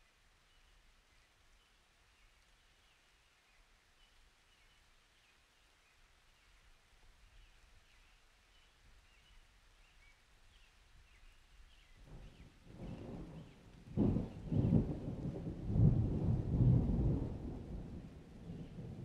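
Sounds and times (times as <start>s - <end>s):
small birds chirping faintly: 0.0s - 19.0s.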